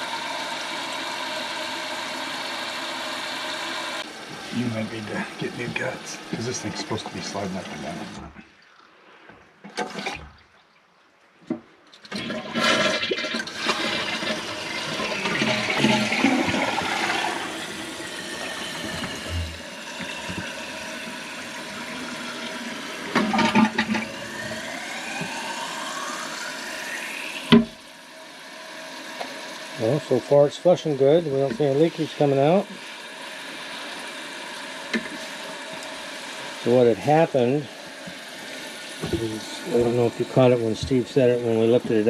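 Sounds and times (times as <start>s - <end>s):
toilet tank refilling hiss: 0.0s - 8.3s, 12.1s - 42.0s
toilet flushing: 0.0s - 8.6s, 9.7s - 10.5s, 12.0s - 42.0s.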